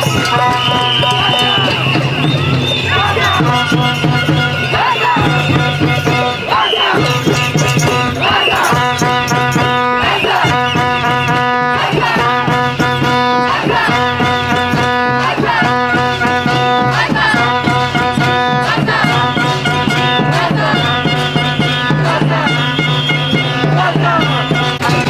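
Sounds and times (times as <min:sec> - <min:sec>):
percussion beat: 0:00.0 - 0:25.0.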